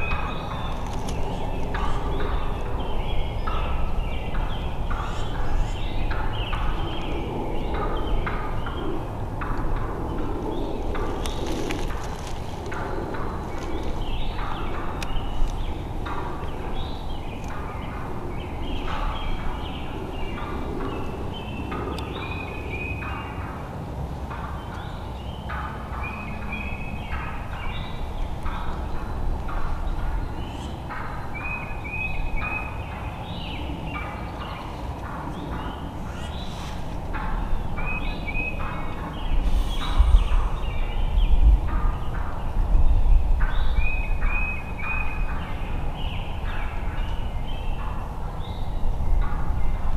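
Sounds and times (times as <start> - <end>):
wild turkeys calling: 0.0 - 23.7, 25.5 - 42.4.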